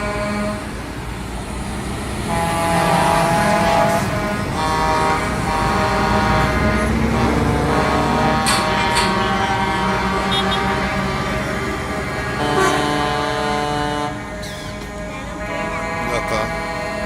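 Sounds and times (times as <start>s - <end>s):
truck air horns blasting: 0.0s - 0.9s, 2.2s - 17.0s
truck engines rumbling: 0.0s - 17.0s.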